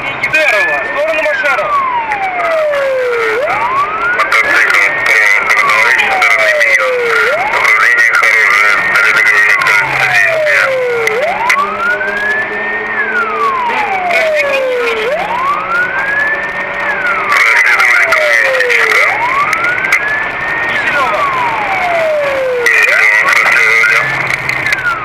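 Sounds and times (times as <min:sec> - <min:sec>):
police siren wailing: 0:00.0 - 0:25.0.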